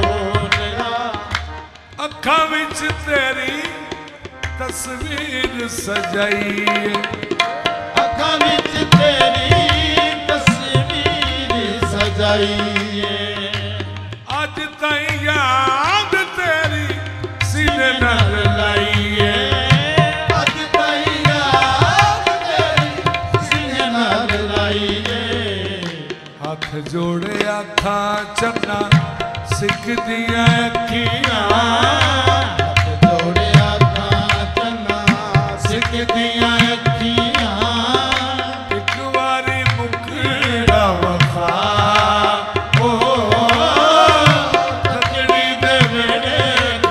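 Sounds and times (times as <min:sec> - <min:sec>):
harmonium held notes: 0:00.0 - 0:46.9
man singing: 0:00.0 - 0:46.9.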